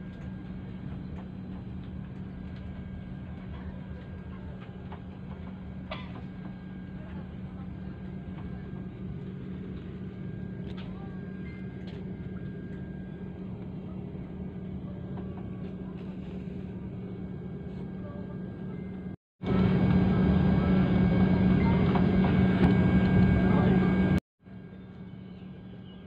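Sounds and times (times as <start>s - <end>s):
airplane cabin hum: 0.0s - 26.0s.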